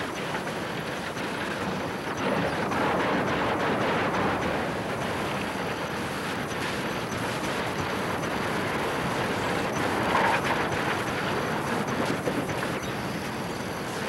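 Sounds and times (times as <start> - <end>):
aircraft engine: 0.0 - 14.0.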